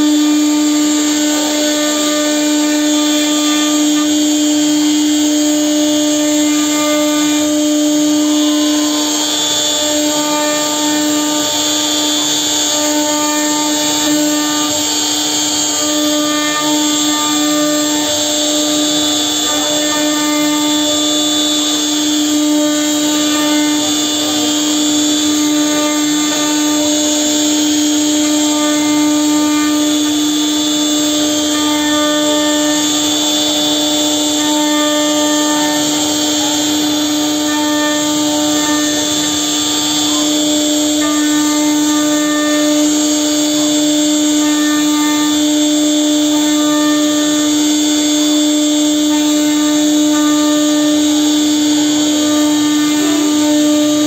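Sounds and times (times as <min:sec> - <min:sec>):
router spindle whine: 0:00.0 - 0:54.0.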